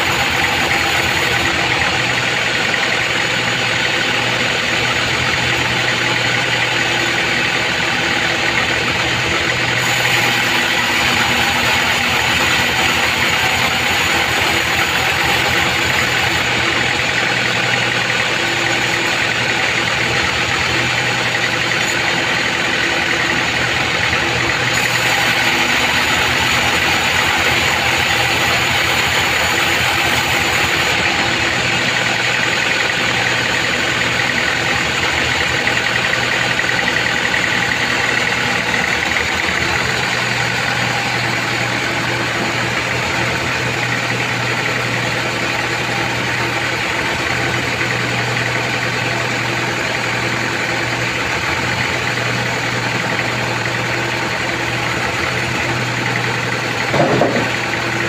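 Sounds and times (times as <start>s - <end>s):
band saw cutting timber: 0.0s - 52.4s, 53.1s - 58.0s.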